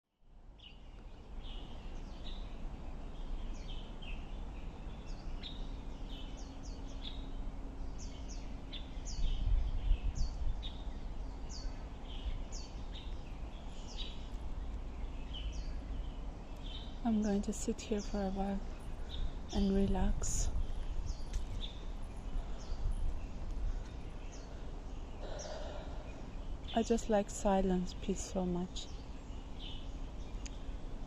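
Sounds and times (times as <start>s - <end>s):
faint hum: 0.3s - 31.0s
small birds chirping: 0.4s - 31.0s
steady low rumble: 0.4s - 31.0s.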